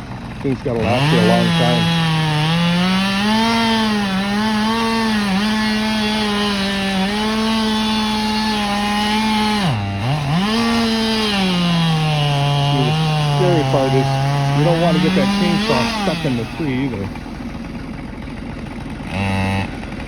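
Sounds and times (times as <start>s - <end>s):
chainsaw cutting tree trunk: 0.0s - 20.0s.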